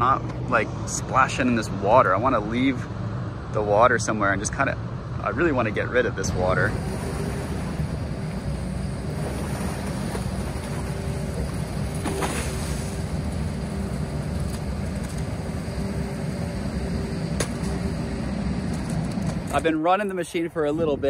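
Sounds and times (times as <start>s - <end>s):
excavator engine rumble: 0.0s - 21.0s.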